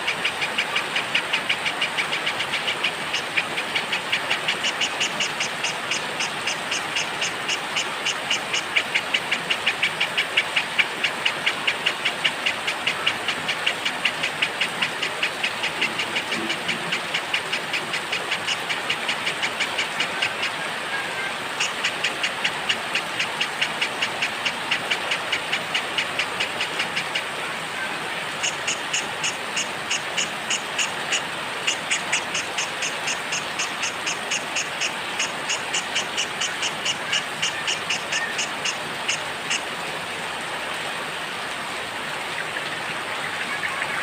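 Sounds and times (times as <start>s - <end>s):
rain hissing: 0.0s - 37.4s.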